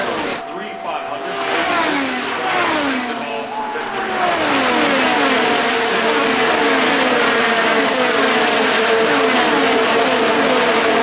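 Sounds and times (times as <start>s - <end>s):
race car engines passing: 0.0s - 11.0s
steady engine note: 1.3s - 11.0s.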